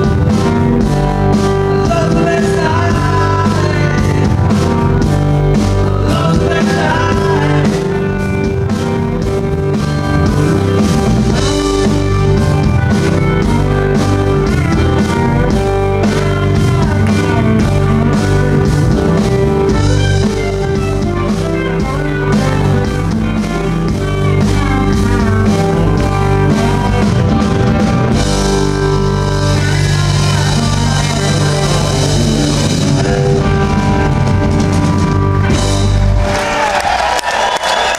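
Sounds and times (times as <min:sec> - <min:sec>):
drum kit and cymbals: 0:00.0 - 0:37.0
bass guitar: 0:00.0 - 0:37.9
electric guitar with bent notes: 0:00.0 - 0:37.9.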